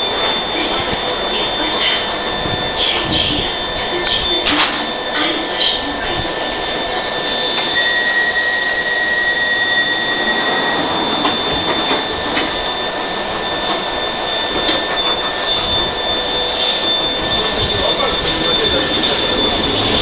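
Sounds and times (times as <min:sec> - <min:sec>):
door warning tone: 0:00.0 - 0:20.0
high whine: 0:00.0 - 0:20.0
train equipment hiss and hum: 0:00.0 - 0:20.0.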